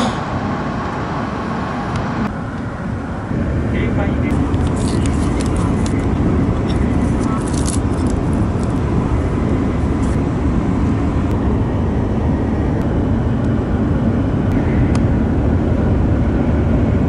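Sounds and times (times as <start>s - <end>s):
train cabin rumble: 0.0s - 15.9s.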